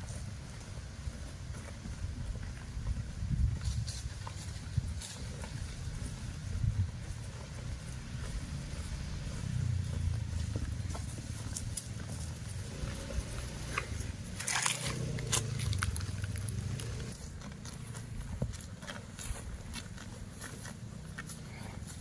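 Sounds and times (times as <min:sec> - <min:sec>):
cattle tearing and chewing grass: 0:00.0 - 0:22.0.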